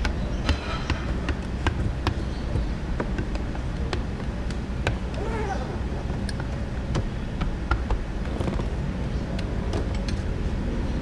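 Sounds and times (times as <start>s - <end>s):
clicks and taps on windshield: 0.0s - 5.4s, 6.0s - 10.3s
low workshop hum: 0.0s - 11.0s.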